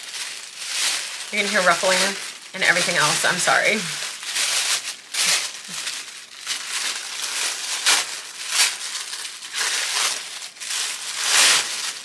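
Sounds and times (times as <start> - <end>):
wrapping paper rustling: 0.0 - 12.0.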